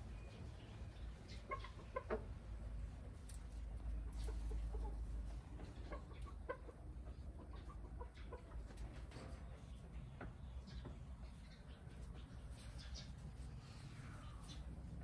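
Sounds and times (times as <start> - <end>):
hens clucking: 0.2 - 15.0.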